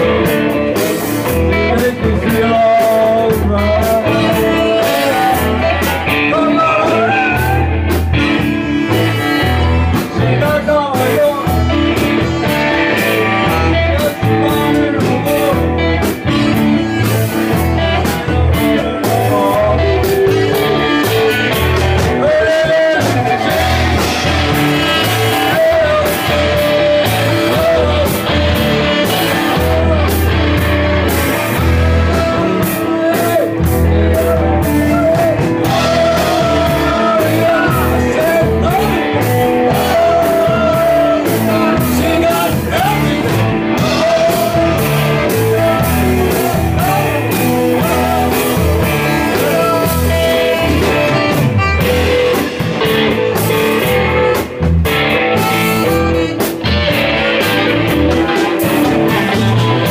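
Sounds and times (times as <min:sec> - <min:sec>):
drum kit: 0:00.0 - 0:59.9
guitar: 0:00.0 - 0:59.9
live band playing: 0:00.0 - 0:59.9
person singing: 0:00.0 - 0:59.9.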